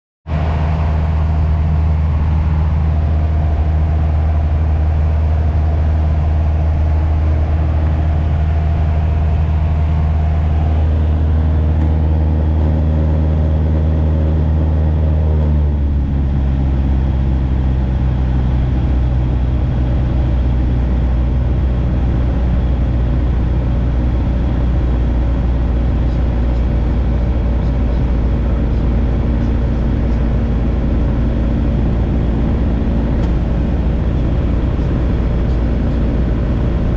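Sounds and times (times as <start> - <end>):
light aircraft piston engine: 0.3 - 36.9.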